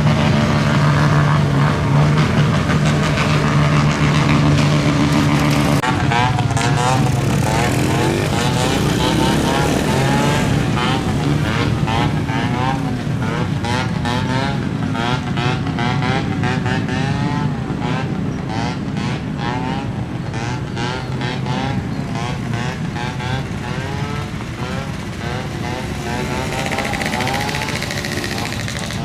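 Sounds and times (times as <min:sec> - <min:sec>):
steady engine drone: 0:00.0 - 0:29.0.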